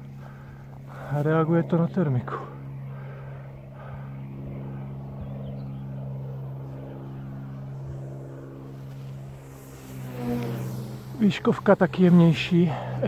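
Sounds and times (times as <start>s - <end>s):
electric motor and propeller buzz: 0.0s - 13.0s.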